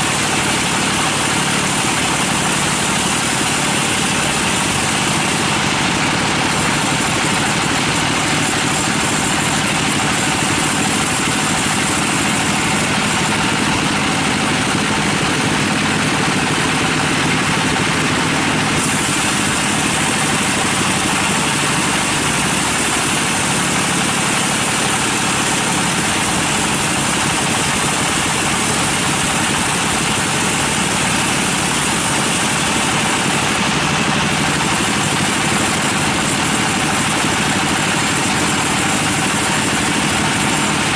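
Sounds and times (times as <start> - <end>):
sawmill machine drone: 0.0 - 40.9.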